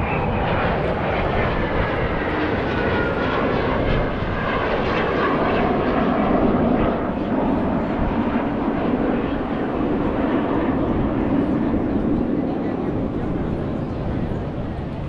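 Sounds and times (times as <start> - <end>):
aircraft engine overhead: 0.0 - 15.0.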